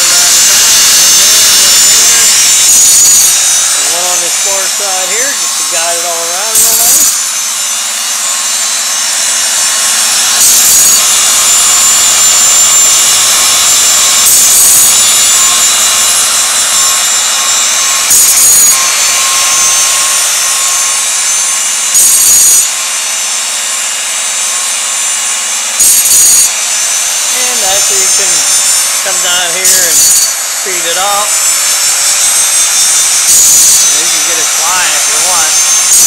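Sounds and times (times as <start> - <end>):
harsh grinding bursts: 0.0 - 36.0
sharpener motor and wheel humming: 0.0 - 36.0.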